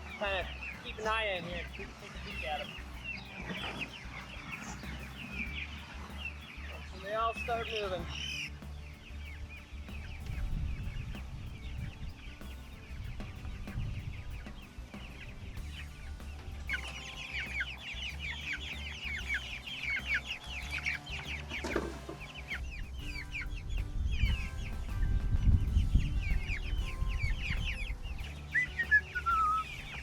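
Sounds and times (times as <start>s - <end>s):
chicks peeping: 0.0s - 30.0s
low rumble: 0.0s - 30.0s.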